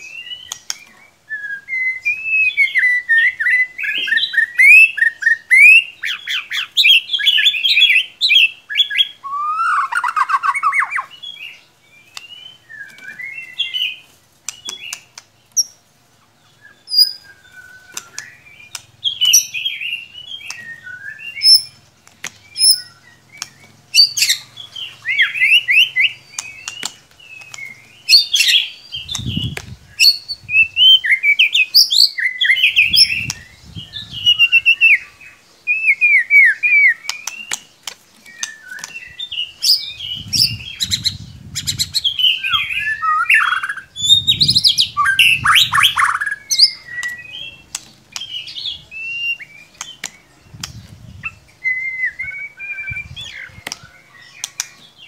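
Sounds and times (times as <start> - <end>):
bird singing whistled phrases: 0.0 - 15.0, 16.6 - 21.8, 22.4 - 37.6, 38.3 - 54.8.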